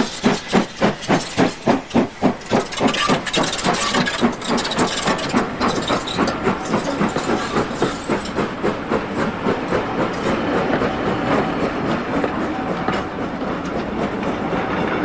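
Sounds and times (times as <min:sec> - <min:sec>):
steam hissing: 0:00.0 - 0:15.0
steam locomotive exhaust puffs: 0:00.0 - 0:15.0.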